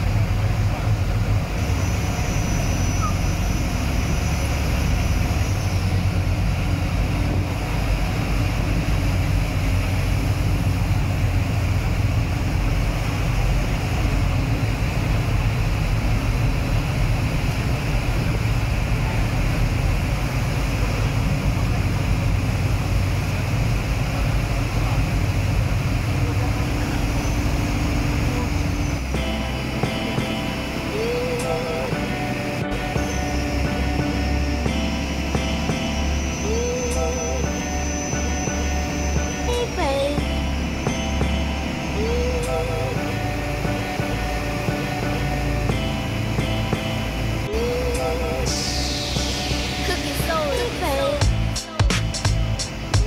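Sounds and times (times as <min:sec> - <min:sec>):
motorboat engine drone: 0:00.0 - 0:53.0
water noise from hull: 0:00.0 - 0:53.0.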